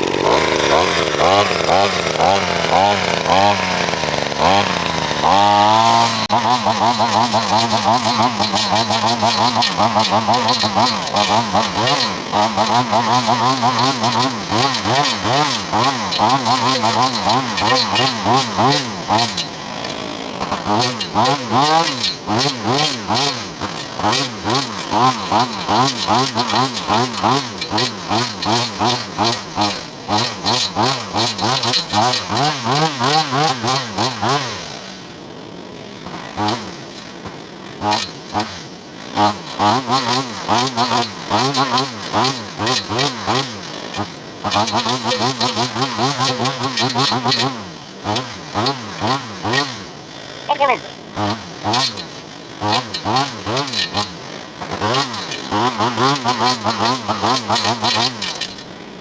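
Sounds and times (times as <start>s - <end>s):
brush-cutter cutting brush: 0.0s - 35.0s, 39.2s - 49.9s, 50.5s - 58.8s.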